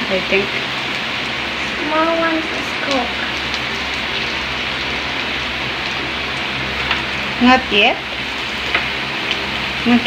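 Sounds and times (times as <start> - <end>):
meat sizzling on grill: 0.0 - 10.0.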